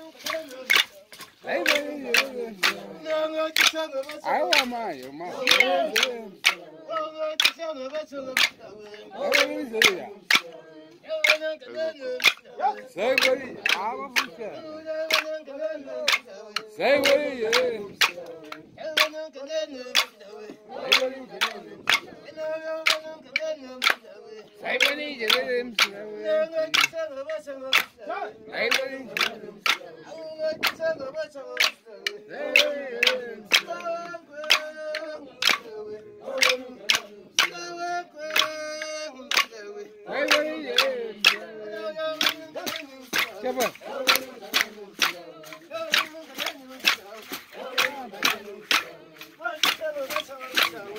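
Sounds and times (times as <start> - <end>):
group singing: 0.0 - 50.9
sharp percussive beat: 0.0 - 50.9.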